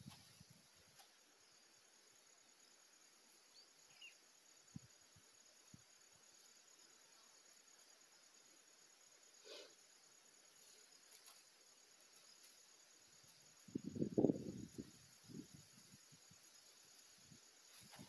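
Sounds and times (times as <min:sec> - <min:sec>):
faint high-pitched outdoor hiss: 0:00.0 - 0:18.0.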